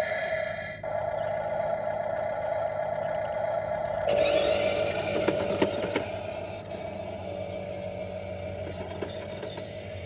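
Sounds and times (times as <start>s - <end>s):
toy truck electric motor whirring: 0.8s - 10.0s.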